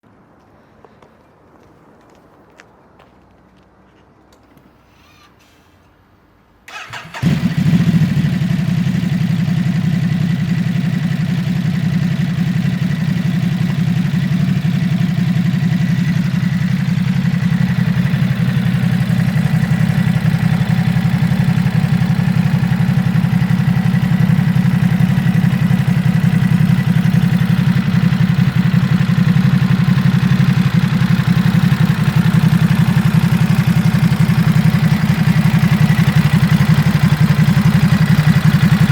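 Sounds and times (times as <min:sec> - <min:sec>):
motorcycle engine starting and idling: 0:06.7 - 0:38.9.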